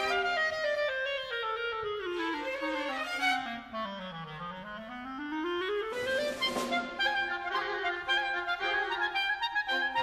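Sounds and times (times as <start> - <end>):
clarinet descending line: 0.0 - 10.0.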